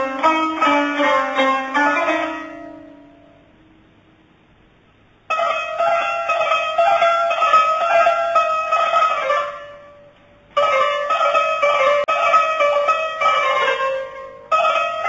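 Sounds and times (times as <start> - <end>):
plucked string melody: 0.0 - 3.8, 5.3 - 15.0.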